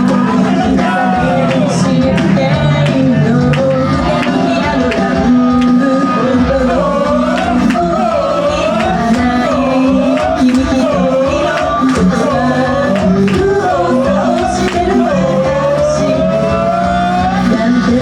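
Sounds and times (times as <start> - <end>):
loud backing music with drum beat: 0.0 - 18.0
woman singing: 0.0 - 18.0.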